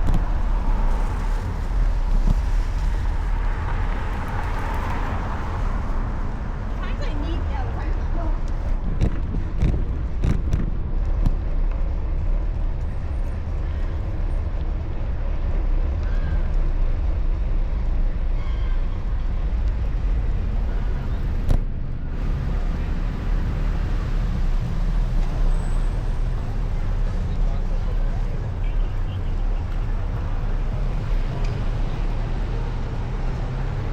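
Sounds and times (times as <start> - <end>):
road traffic rumble: 0.0 - 33.9
wind noise: 0.0 - 33.9.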